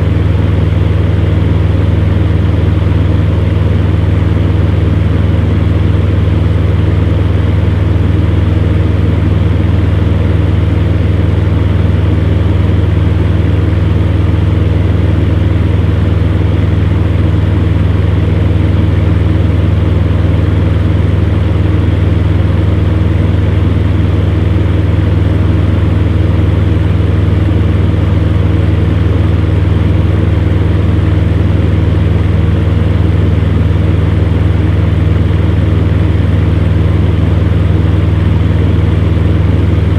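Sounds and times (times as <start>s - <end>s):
fan heater motor hum: 0.0s - 39.9s.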